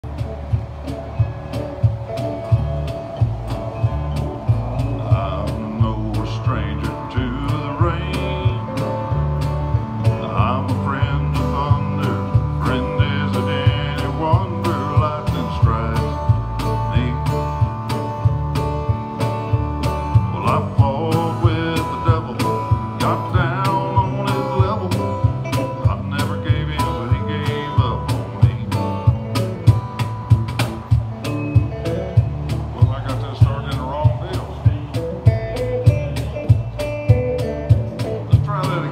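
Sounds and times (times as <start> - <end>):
guitar playing country tune: 0.0 - 38.9.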